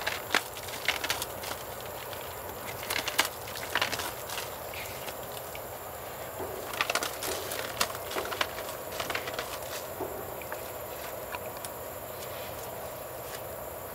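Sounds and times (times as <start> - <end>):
steady hiss: 0.0 - 13.9
termite nest crackling and crunching: 0.0 - 13.9.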